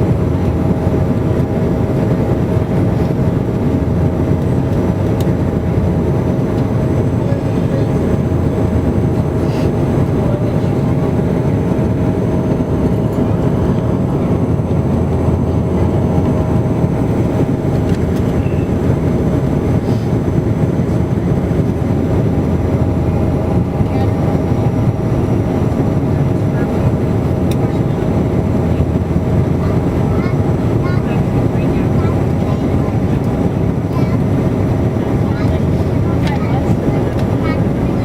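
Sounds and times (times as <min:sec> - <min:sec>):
turboprop engines droning: 0:00.0 - 0:38.0.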